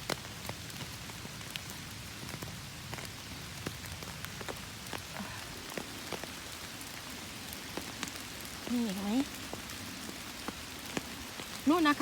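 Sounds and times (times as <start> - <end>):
raindrops tapping on umbrella: 0.0 - 12.0
steady rain falling: 0.0 - 12.0.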